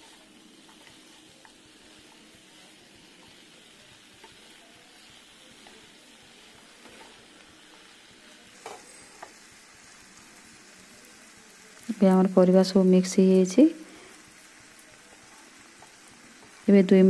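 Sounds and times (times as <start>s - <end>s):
faint sizzle of frying: 0.0s - 17.0s.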